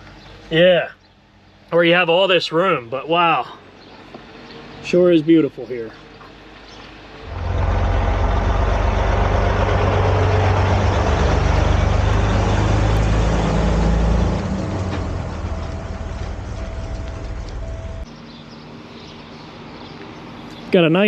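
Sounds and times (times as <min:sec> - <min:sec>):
diesel truck engine rumbling: 0:00.0 - 0:18.2.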